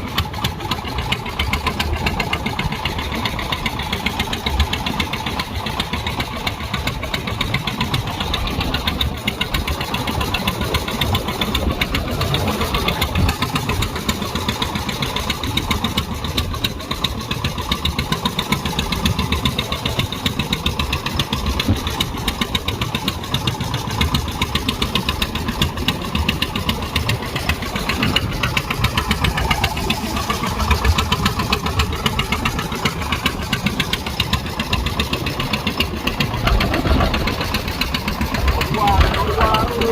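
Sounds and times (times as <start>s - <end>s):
boat engine chugging: 0.0s - 39.9s.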